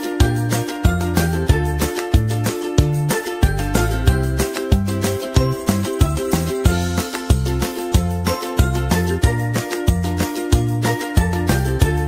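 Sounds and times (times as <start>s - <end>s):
cheerful music with steady beat: 0.0s - 12.0s
bouncing bass line: 0.2s - 12.0s.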